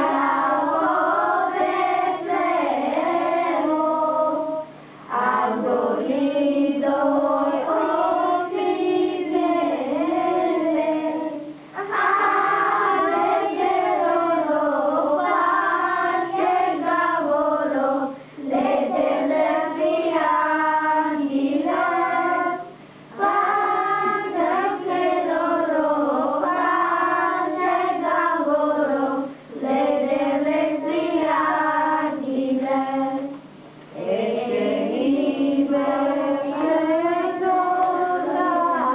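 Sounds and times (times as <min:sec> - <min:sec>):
children singing a carol: 0:00.0 - 0:33.3, 0:34.0 - 0:38.9.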